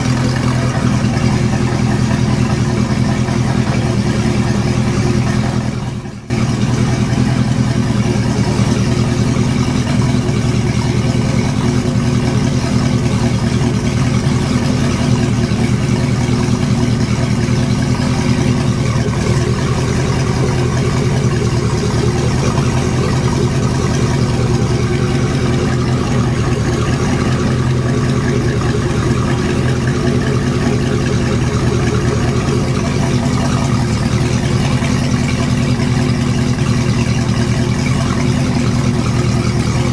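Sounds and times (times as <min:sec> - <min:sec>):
boat engine running steadily: 0:00.0 - 0:39.9.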